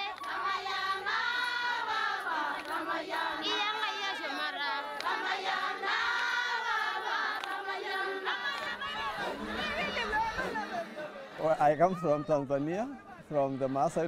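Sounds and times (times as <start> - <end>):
women singing choral chant: 0.0 - 11.4.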